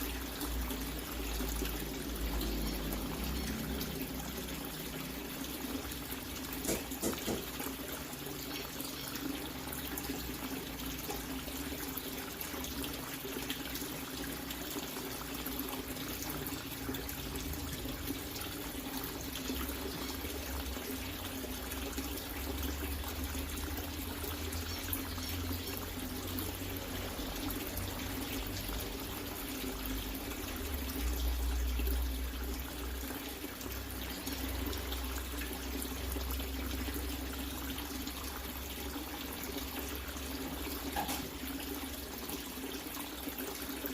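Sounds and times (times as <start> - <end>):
water running: 0.0 - 43.9.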